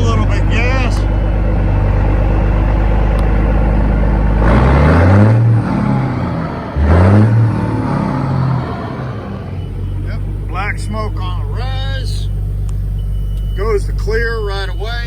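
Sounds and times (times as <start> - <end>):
diesel truck engine idling and revving: 0.0 - 15.0.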